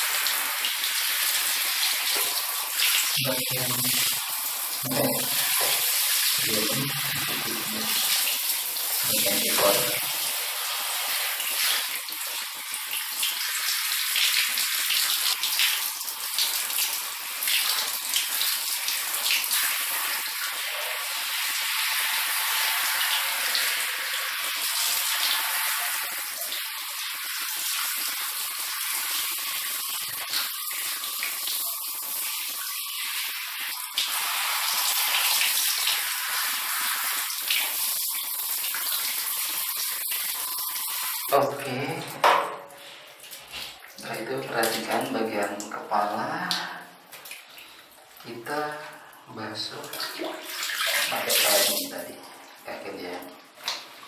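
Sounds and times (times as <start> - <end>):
shower hose spraying water: 0.0 - 54.0.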